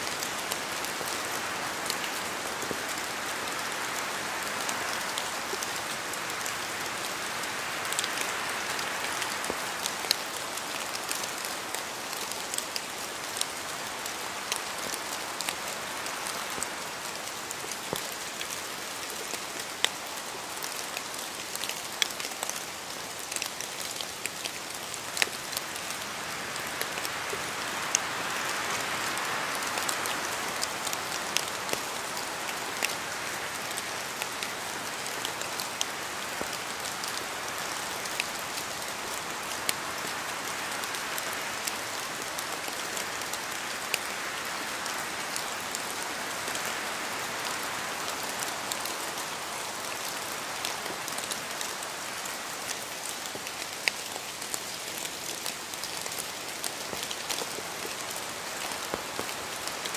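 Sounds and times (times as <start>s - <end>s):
rain hissing on a surface: 0.0s - 59.9s.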